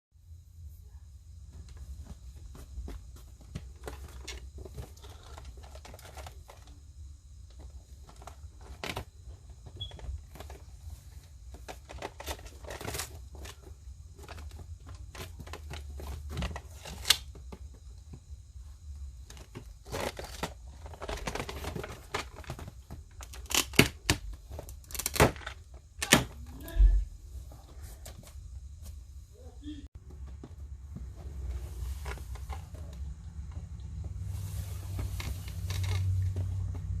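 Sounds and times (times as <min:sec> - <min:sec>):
cardboard and plastic rustling: 0:01.4 - 0:29.0, 0:30.0 - 0:37.0.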